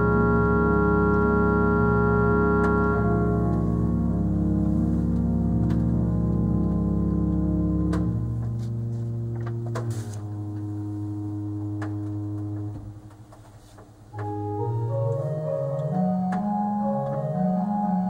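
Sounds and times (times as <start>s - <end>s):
low organ pedal notes: 0.0s - 13.2s, 14.1s - 18.0s
pipe organ chords: 0.0s - 13.2s, 14.1s - 18.0s.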